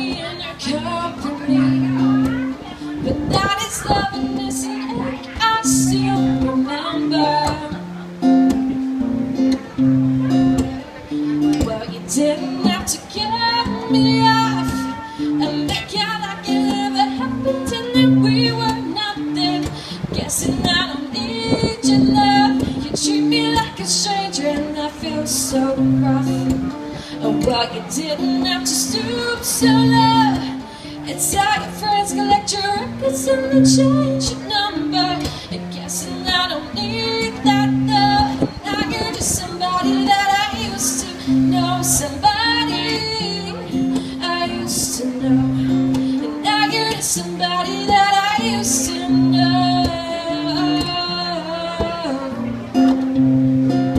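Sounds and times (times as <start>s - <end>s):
woman singing: 0.0s - 8.7s, 9.5s - 53.9s
acoustic guitar chords: 0.0s - 53.9s.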